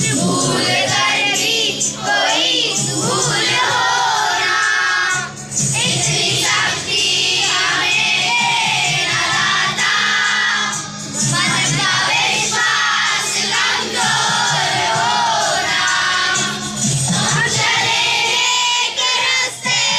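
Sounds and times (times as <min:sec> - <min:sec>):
boys singing in unison: 0:00.0 - 0:19.9.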